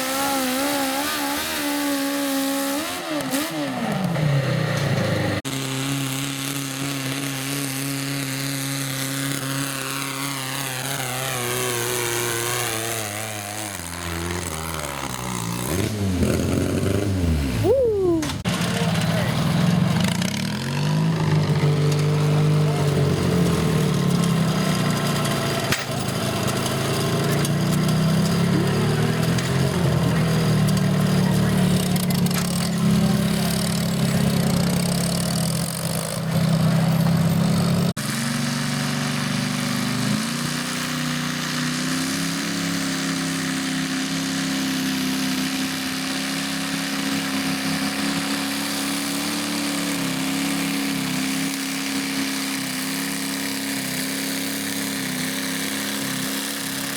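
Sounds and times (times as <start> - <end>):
engine running at higher pitch: 0.0 - 56.9
garden tractor engine running: 0.0 - 56.9.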